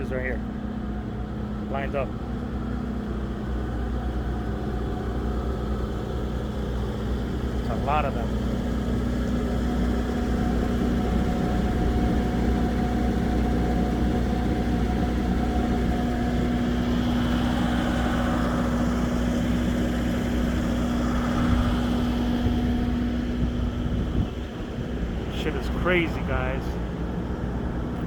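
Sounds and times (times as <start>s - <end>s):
continuous machine rumble: 0.0s - 28.0s
low machine humming tone: 0.0s - 28.0s.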